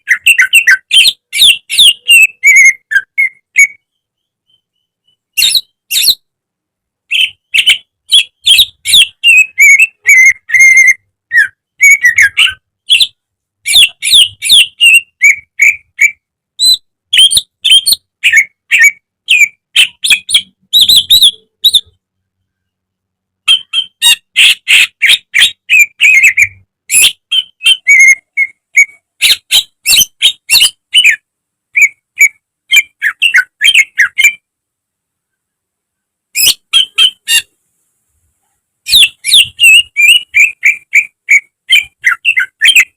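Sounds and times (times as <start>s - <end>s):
bird singing chirps and whistles: 0.0s - 6.3s, 7.1s - 22.0s, 23.5s - 31.2s, 31.8s - 34.4s, 36.4s - 37.5s, 38.9s - 42.9s.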